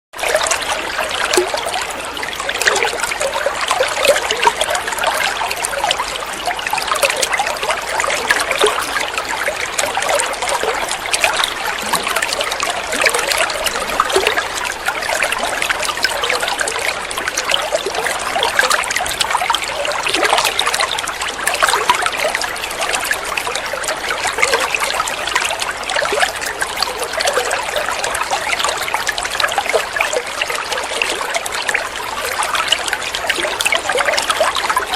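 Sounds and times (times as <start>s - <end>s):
water trickling over stones: 0.2s - 34.9s.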